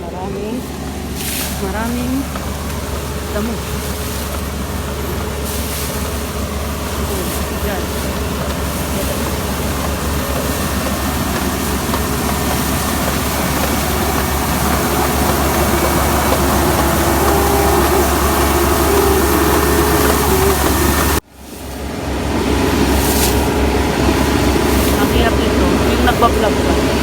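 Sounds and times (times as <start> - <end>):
combine harvester engine drone: 0.0 - 27.0.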